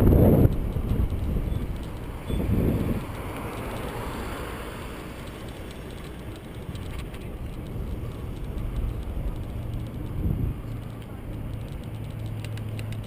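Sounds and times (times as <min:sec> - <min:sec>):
light clicks from bicycle: 0:00.0 - 0:13.0
tyres rumbling on path: 0:00.0 - 0:13.0
wind rushing over microphone: 0:00.0 - 0:13.0.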